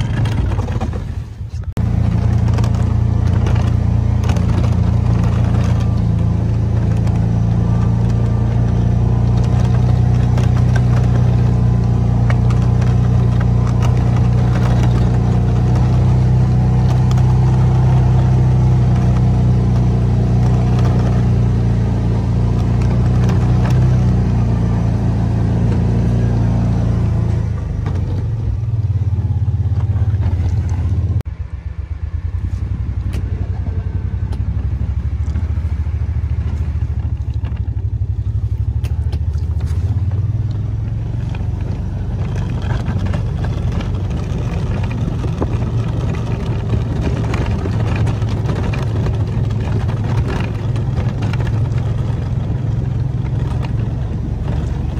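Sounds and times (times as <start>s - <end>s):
utility vehicle engine running: 0.0s - 54.9s.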